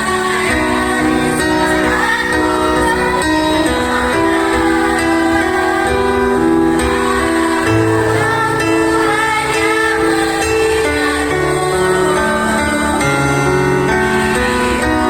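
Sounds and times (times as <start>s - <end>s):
slow song with held notes: 0.0s - 15.0s
woman singing: 0.0s - 15.0s.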